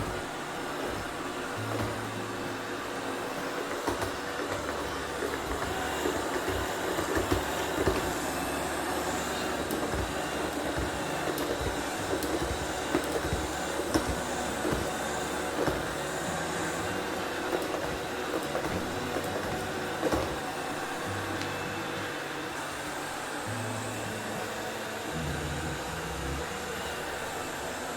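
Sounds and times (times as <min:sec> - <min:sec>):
robot vacuum cleaner humming: 0:00.0 - 0:27.9.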